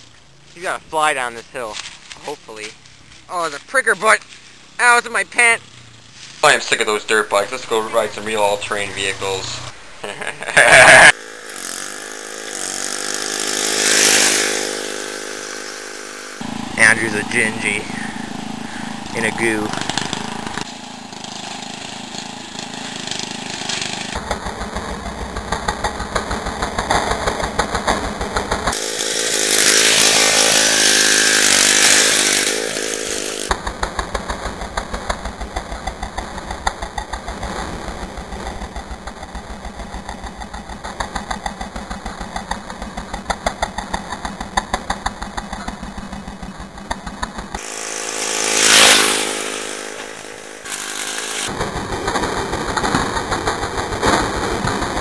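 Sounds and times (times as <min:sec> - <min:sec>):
off-road vehicle engines pulsing: 0:00.0 - 0:55.0
vehicle passing close: 0:10.6 - 0:55.0.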